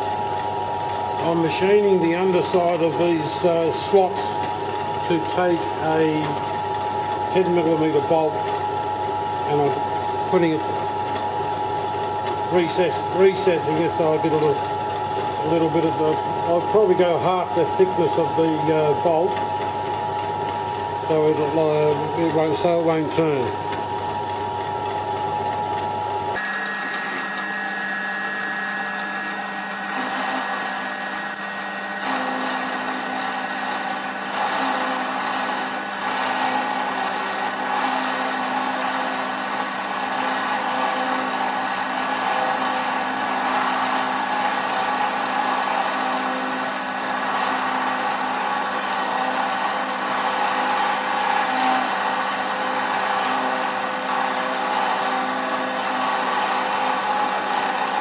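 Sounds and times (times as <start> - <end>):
milling machine motor whine: 0.0 - 58.0.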